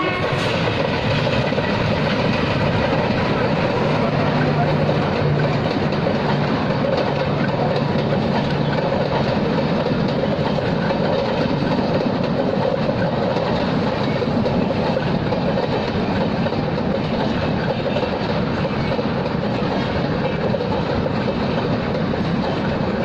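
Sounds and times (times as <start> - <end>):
train coaches rumbling past: 0.0 - 23.0.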